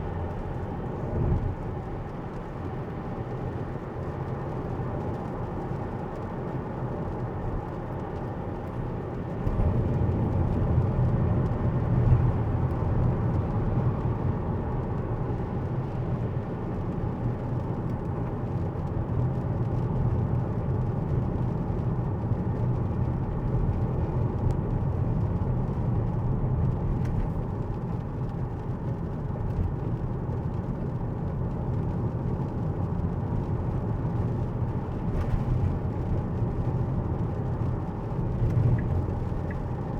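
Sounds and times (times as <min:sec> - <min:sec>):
tyres on wet road: 0:00.0 - 0:39.9.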